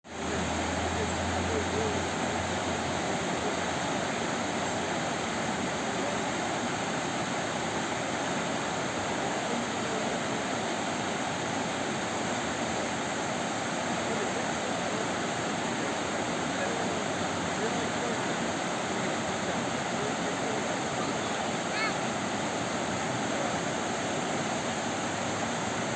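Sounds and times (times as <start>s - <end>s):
river water rushing: 0.1s - 25.9s.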